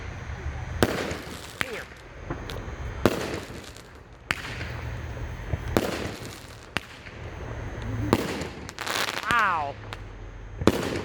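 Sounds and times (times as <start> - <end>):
loud firework reports: 0.0 - 11.0
faint firework pops: 0.8 - 11.0.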